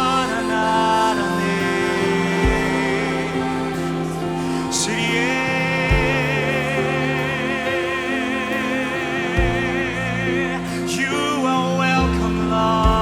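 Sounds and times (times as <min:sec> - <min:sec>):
worship band music: 0:00.0 - 0:13.0.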